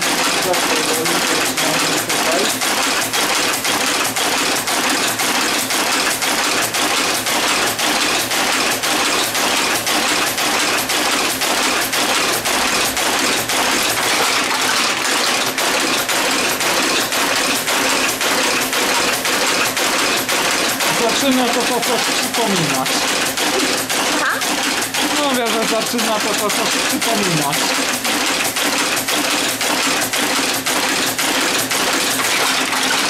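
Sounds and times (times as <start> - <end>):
type caster mechanical clatter: 0.0 - 33.0.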